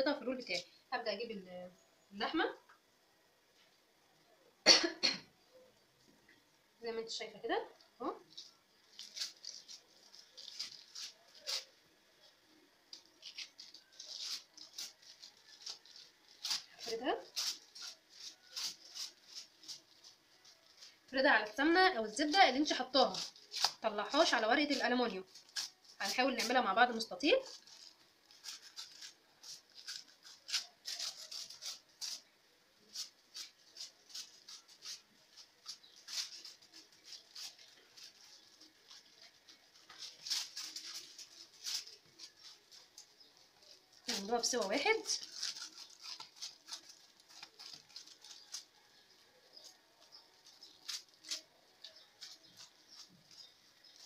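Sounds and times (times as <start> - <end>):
aluminium foil crinkling: 7.1 - 54.0.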